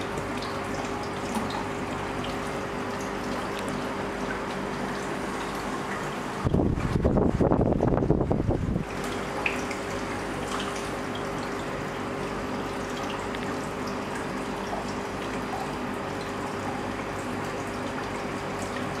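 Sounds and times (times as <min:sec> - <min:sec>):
faint water drips: 0:00.0 - 0:06.5, 0:08.9 - 0:19.0
aquarium water trickling: 0:00.0 - 0:19.0
steady hum: 0:00.0 - 0:19.0.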